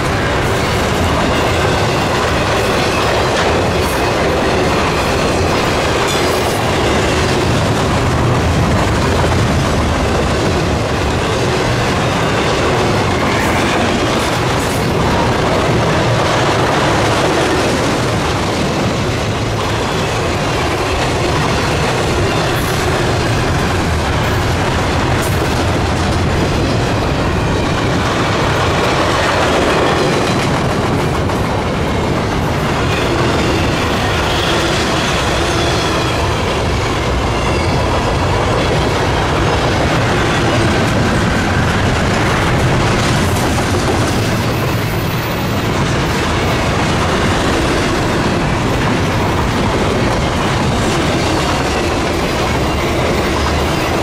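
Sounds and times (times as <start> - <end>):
freight train rumbling past: 0.0 - 54.0
wheels clacking on rails: 0.0 - 54.0.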